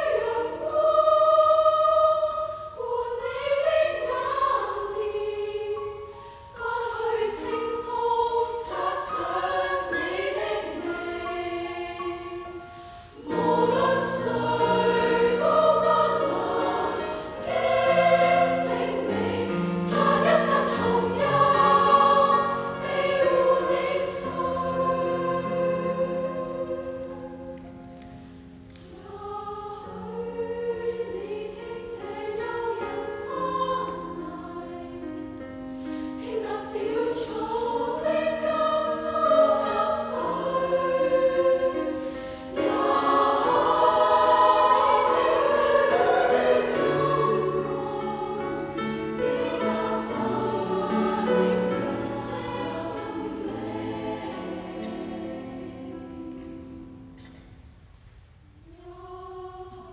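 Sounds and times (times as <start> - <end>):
women's choir singing: 0.0 - 57.4, 58.6 - 59.9
piano accompaniment: 2.9 - 57.2.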